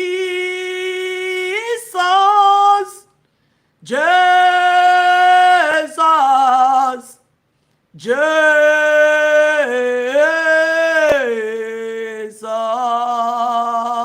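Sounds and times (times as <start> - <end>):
person singing unaccompanied: 0.0 - 3.2, 3.8 - 7.3, 8.0 - 14.0.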